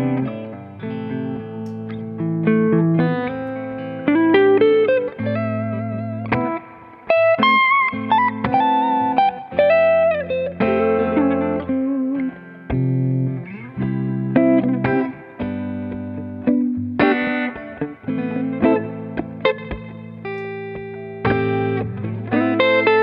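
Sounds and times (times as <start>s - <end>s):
electric guitar chords: 0.0s - 23.0s
lead guitar melody with bends: 0.0s - 23.0s.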